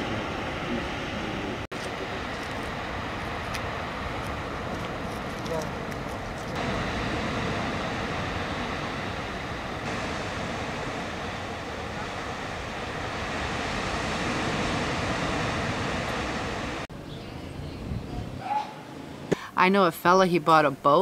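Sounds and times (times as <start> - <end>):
waves breaking on sandy beach: 0.0 - 16.9.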